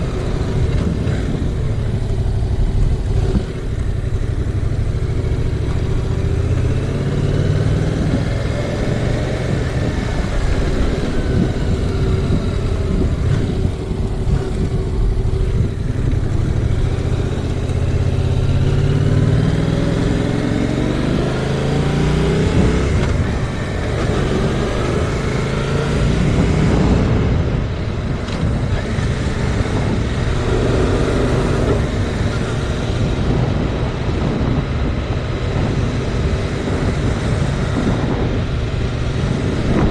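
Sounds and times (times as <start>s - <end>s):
motorcycle engine accelerating: 0.0s - 39.9s
wind buffeting microphone: 0.0s - 39.9s.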